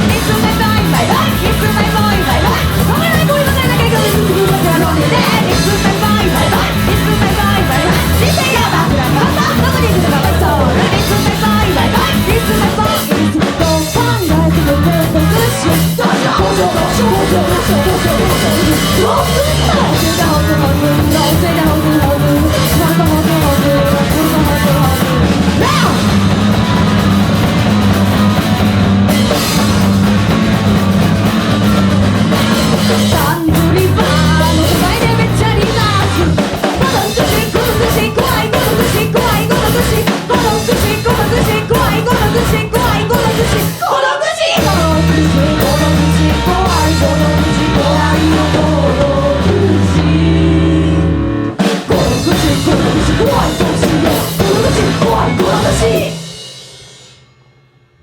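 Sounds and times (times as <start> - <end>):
person singing: 0.0 - 26.8, 32.7 - 56.4
bass guitar: 0.0 - 43.8, 44.6 - 56.4
distorted guitar: 0.0 - 43.8, 44.6 - 57.3
drum kit pounding: 0.0 - 43.9, 44.6 - 57.0.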